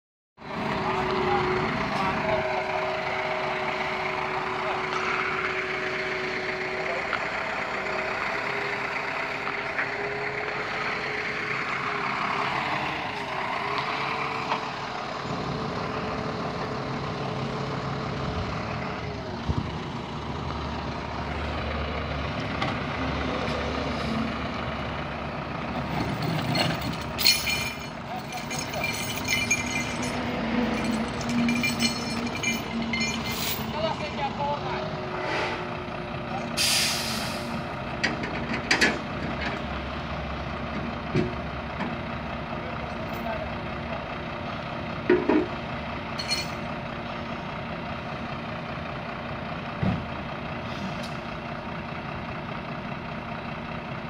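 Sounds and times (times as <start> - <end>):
diesel truck engine idling: 0.4 - 54.0.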